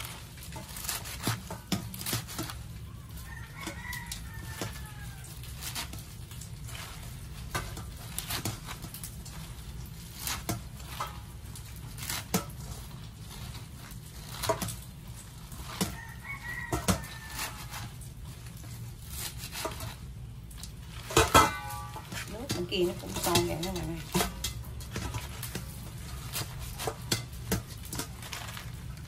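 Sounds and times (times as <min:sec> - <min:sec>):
knife slicing leafy greens: 0:00.0 - 0:29.0
leaves rustling: 0:00.0 - 0:29.0.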